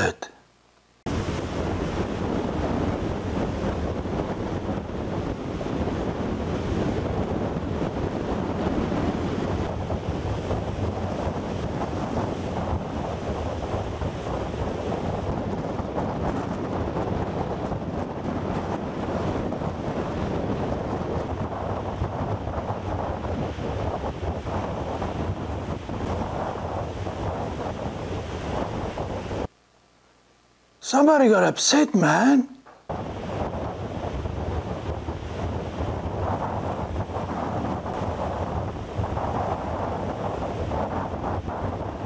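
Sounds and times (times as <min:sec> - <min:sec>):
wind buffeting microphone: 0:01.1 - 0:29.5, 0:32.9 - 0:42.0.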